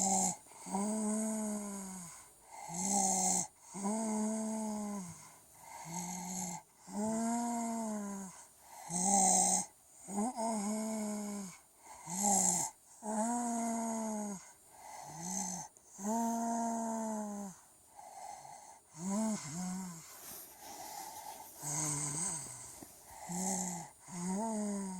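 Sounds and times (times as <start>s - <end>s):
child snoring: 0.0s - 24.9s
wheezy hissing breaths: 0.0s - 24.9s.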